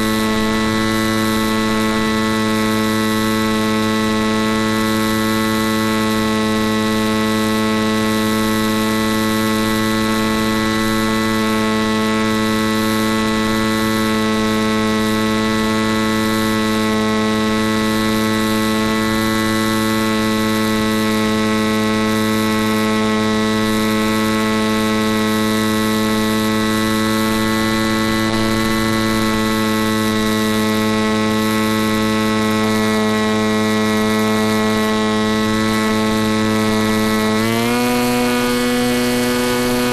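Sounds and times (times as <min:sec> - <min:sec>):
steady buzzing hum: 0:00.0 - 0:39.9.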